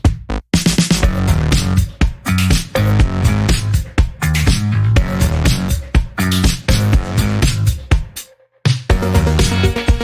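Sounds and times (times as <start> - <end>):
funky electronic music: 0.0 - 10.0.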